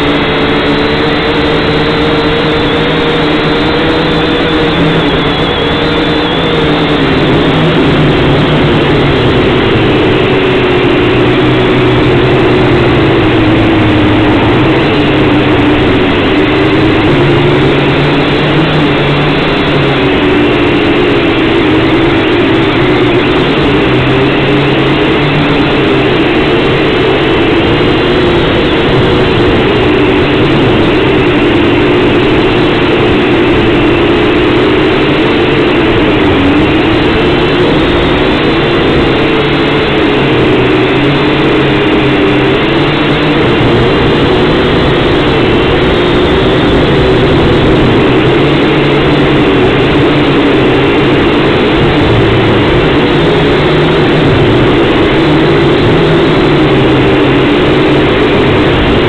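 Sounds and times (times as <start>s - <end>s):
quadcopter propellers buzzing: 0.0s - 59.0s.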